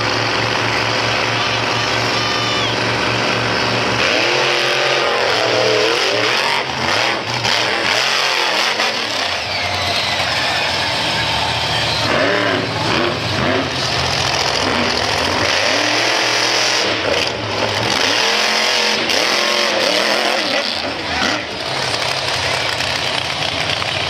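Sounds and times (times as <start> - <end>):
monster truck engines revving: 0.0 - 24.0.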